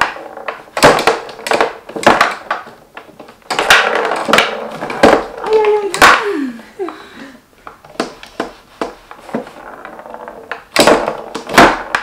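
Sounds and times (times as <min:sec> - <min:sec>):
foosball clacking on wood: 0:00.0 - 0:06.2, 0:07.6 - 0:12.0.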